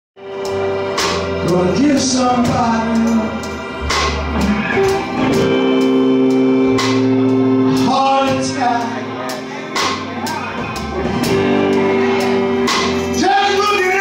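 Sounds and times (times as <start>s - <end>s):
bass: 0.2s - 14.0s
guitar: 0.2s - 14.0s
keyboard chords: 0.2s - 14.0s.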